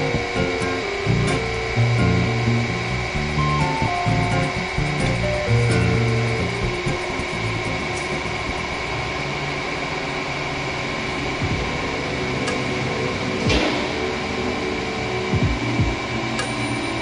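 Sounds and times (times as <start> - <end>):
pump motor humming: 0.0 - 17.0.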